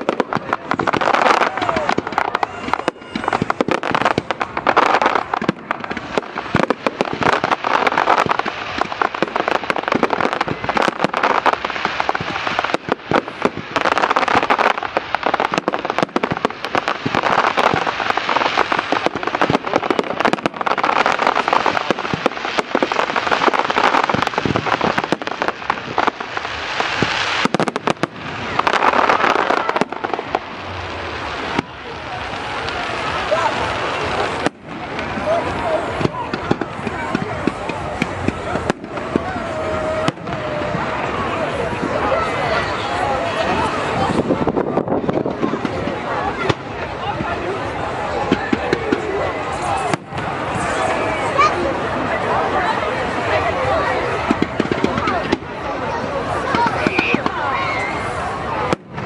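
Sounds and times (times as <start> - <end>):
fireworks crackling and popping: 0.0 - 59.0.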